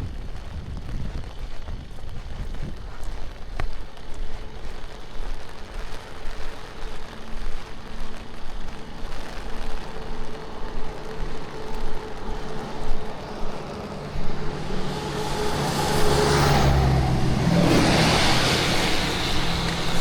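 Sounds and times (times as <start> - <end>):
vehicle engine hum: 0.0 - 20.0
rushing water: 3.2 - 20.0.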